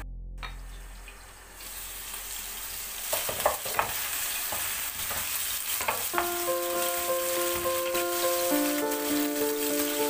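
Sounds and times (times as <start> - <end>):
meat sizzling in a pan: 1.1 - 10.0.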